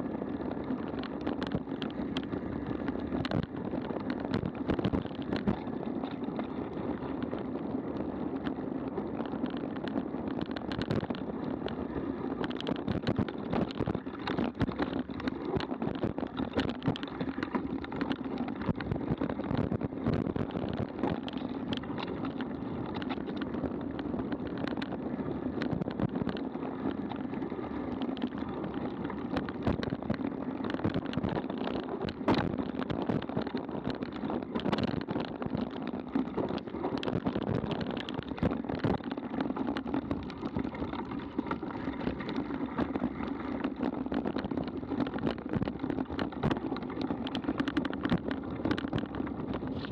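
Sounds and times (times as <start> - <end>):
bike rattling and knocking: 0.0 - 49.9
tyres rumbling on dirt trail: 0.0 - 49.9
wind on camera: 0.0 - 49.9.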